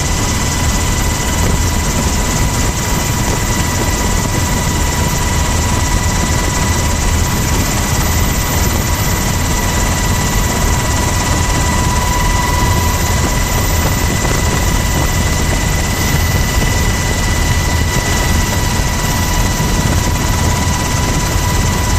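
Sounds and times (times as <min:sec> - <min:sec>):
helicopter rotor and engine noise: 0:00.0 - 0:21.9.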